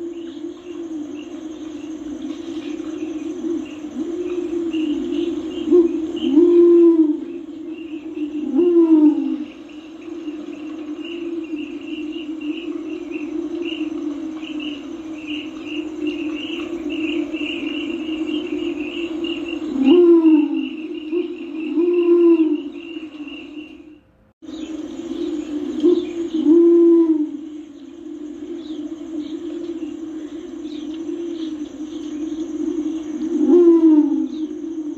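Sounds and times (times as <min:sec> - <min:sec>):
pigeon cooing: 0:00.0 - 0:23.6, 0:25.1 - 0:34.9
continuous low hum: 0:00.0 - 0:34.9
insect chirring: 0:00.0 - 0:34.9.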